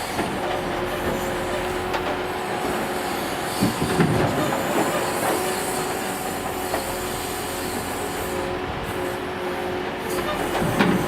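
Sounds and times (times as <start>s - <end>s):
truck engine and hydraulics whine: 0.0s - 11.0s.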